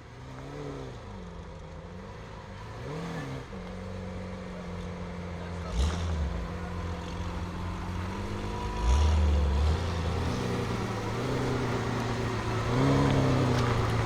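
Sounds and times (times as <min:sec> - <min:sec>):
car engine rumbling at low revs: 0:00.0 - 0:14.0.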